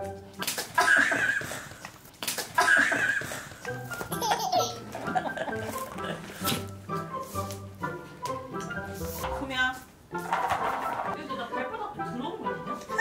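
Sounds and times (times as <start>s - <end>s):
light background music: 0.0s - 1.2s, 2.6s - 13.0s.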